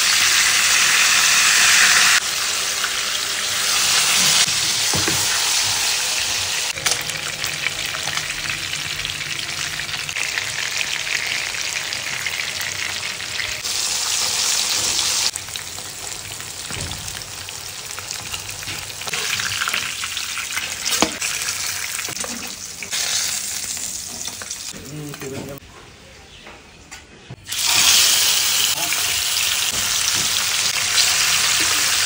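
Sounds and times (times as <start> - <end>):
fish sizzling in hot oil: 0.0 - 24.7, 27.5 - 32.0.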